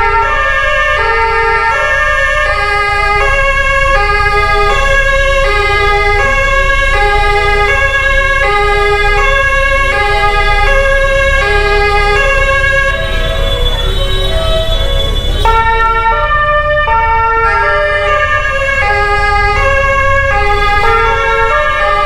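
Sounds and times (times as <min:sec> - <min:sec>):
two-tone siren: 0:00.0 - 0:22.0.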